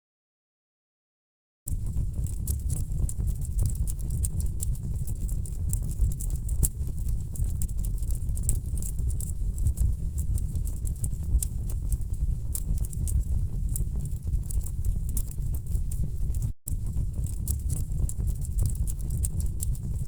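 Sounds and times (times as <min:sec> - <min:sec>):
low rumble of flames: 0:01.7 - 0:20.0
burning logs crackling and popping: 0:01.8 - 0:20.0.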